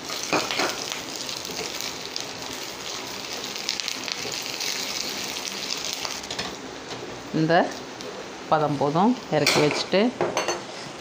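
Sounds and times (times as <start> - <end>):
food sizzling in hot oil: 0.0 - 10.8.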